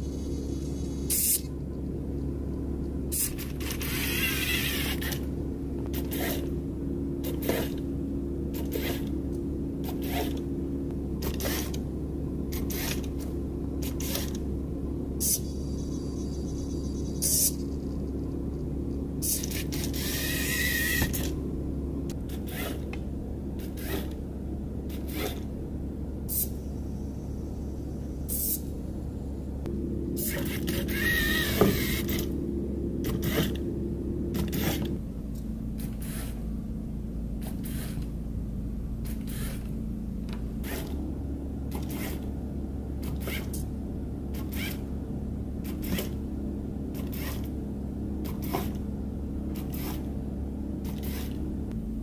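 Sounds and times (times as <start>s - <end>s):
electric gear motors humming: 0.0s - 52.0s.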